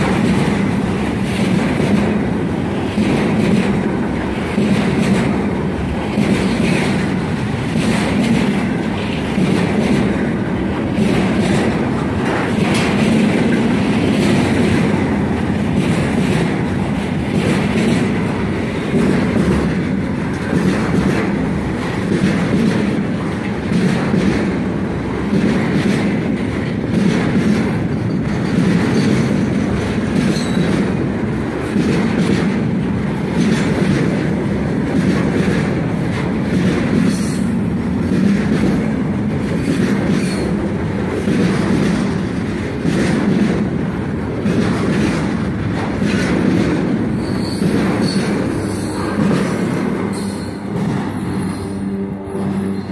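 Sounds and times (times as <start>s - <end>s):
wheels clattering over rail joints: 0.0s - 51.7s
train wheels rumbling on rails: 0.0s - 52.9s.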